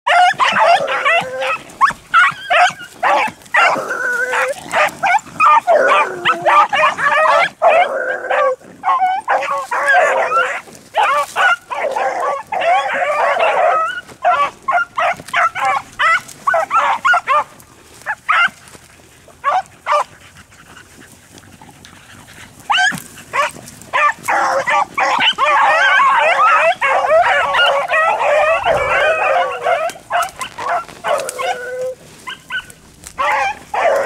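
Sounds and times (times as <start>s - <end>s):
pack of dogs baying: 0.1s - 34.0s.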